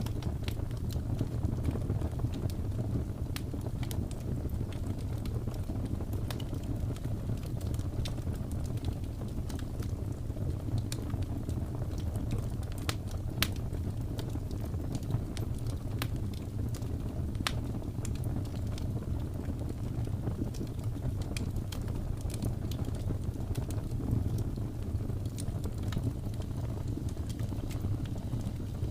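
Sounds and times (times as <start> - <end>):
fire low rumble: 0.0 - 28.9
wood fire crackling and popping: 0.0 - 28.9.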